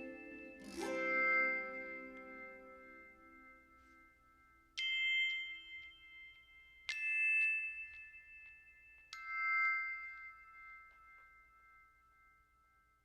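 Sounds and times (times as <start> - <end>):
soft bell-like chime notes: 0.0 - 13.0.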